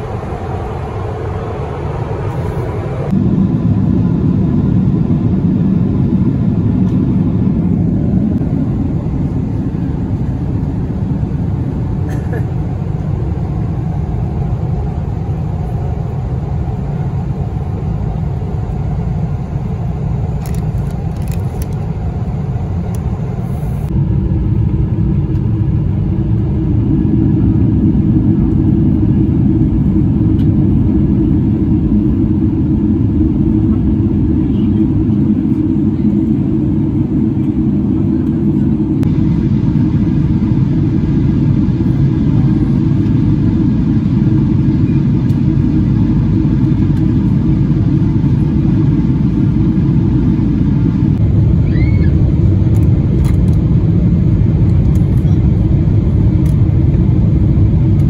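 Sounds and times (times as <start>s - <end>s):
airplane cabin low rumble: 0.0s - 58.0s.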